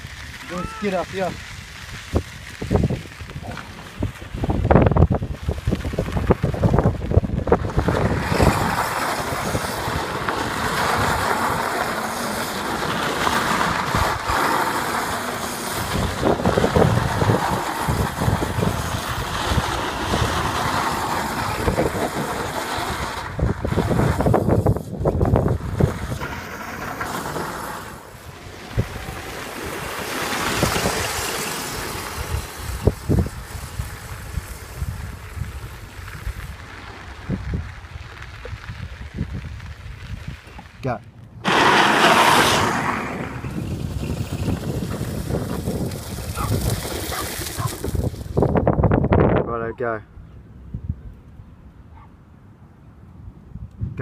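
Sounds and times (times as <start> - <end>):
wind buffeting microphone: 0.0 - 27.2, 27.9 - 52.0
plastic wheels crunching on gravel: 0.0 - 49.0.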